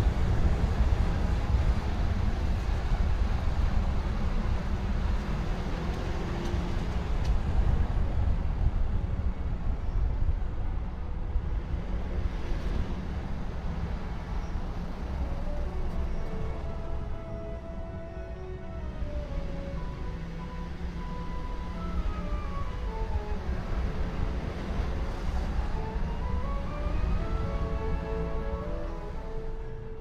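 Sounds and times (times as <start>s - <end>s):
car engine rumble: 0.0s - 30.0s
wind noise: 0.0s - 30.0s.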